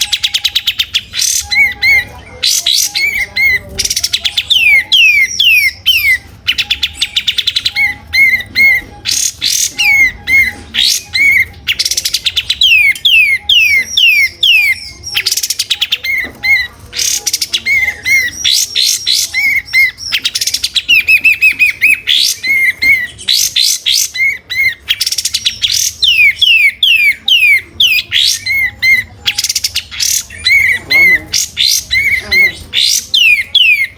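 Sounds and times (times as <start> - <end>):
songbird whistles and trills: 0.0 - 33.9.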